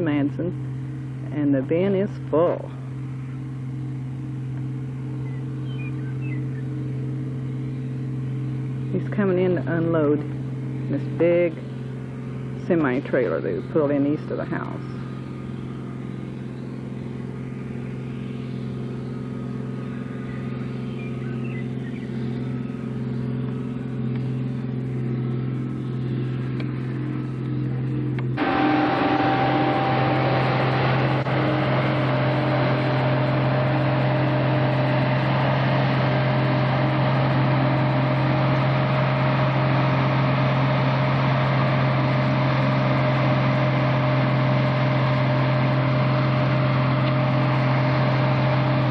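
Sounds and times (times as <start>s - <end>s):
combine harvester engine running: 0.0s - 48.9s.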